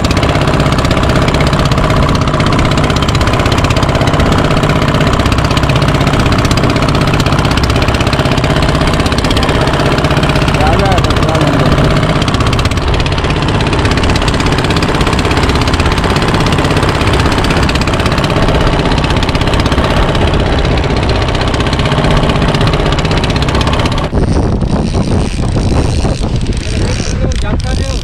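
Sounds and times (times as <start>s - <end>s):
boat diesel engine running: 0.0s - 28.0s
wind on microphone: 0.0s - 28.0s.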